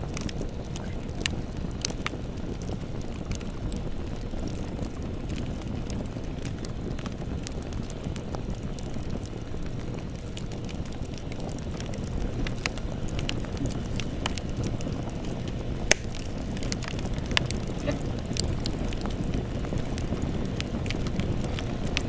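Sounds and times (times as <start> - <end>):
rumble of fire flames: 0.0 - 22.0
wood crackling and popping: 0.0 - 22.0.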